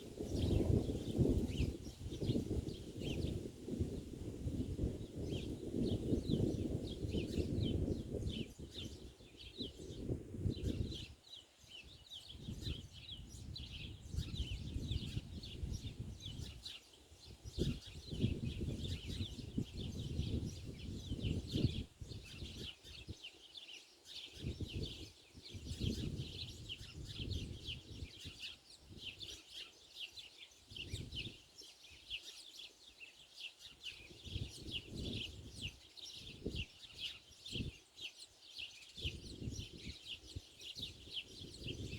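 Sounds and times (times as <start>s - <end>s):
wind rumbling on microphone: 0.0s - 23.2s, 24.2s - 29.4s, 30.7s - 31.4s, 34.0s - 37.8s, 39.0s - 41.9s
small birds chirping: 0.0s - 41.9s.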